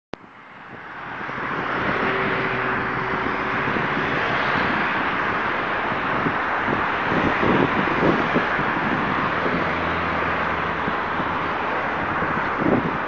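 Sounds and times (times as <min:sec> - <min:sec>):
road traffic rushing: 0:00.2 - 0:13.0
wind on microphone: 0:00.6 - 0:13.0.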